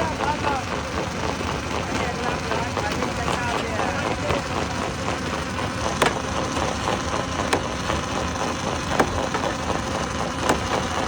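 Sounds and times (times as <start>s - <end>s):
stone crusher machine running: 0.0s - 11.0s.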